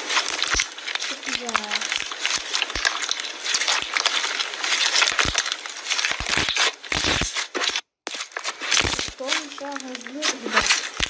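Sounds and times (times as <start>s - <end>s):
slime crackling and popping: 0.0s - 11.0s.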